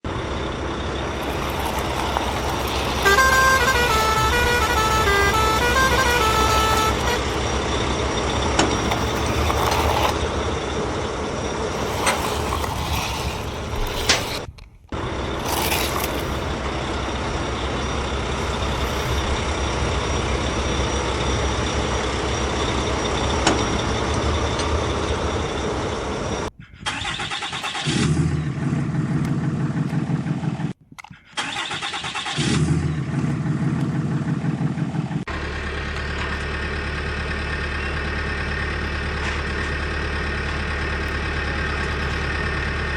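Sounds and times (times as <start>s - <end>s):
truck engine running: 0.0s - 27.4s, 31.4s - 42.9s.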